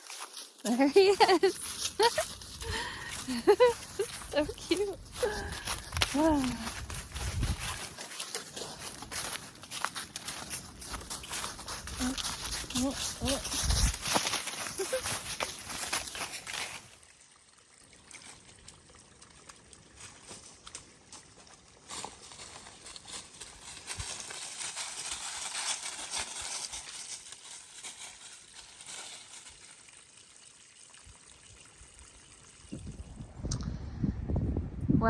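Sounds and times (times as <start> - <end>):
stream trickling over rocks: 0.0 - 33.5.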